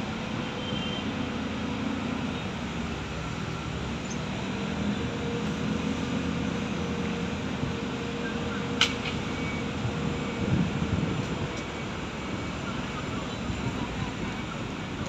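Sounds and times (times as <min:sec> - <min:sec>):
heavy diesel machinery drone: 0:00.0 - 0:15.0.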